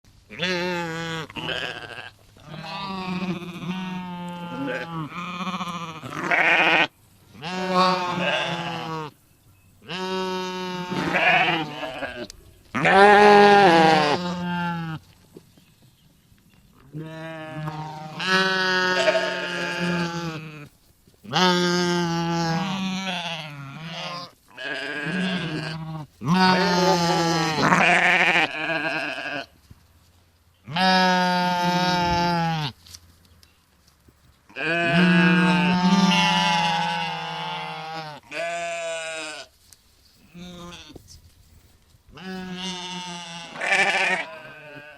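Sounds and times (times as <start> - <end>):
sheep bleating: 0.3 - 9.1, 9.8 - 15.0, 16.9 - 20.7, 21.3 - 29.5, 30.7 - 32.8, 34.5 - 39.5, 40.3 - 41.0, 42.2 - 44.9.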